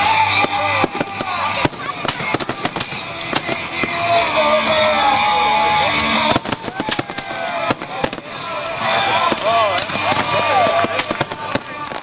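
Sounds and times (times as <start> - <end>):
fireworks bursting with bangs: 0.0 - 12.0
whistling fireworks: 0.0 - 12.0.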